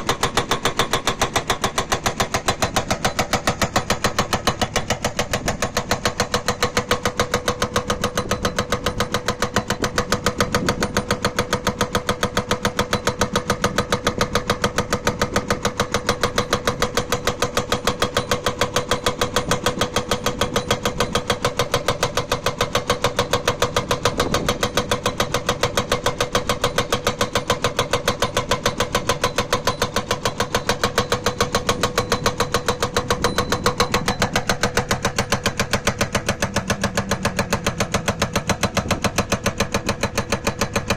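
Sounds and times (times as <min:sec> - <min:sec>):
diesel engine running: 0:00.0 - 0:40.9
hydraulic breaker hammering stone: 0:00.0 - 0:40.9.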